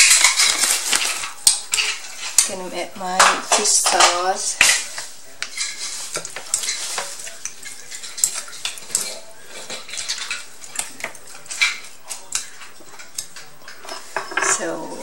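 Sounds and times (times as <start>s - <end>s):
spoon stirring in ceramic bowl: 0.0s - 15.0s.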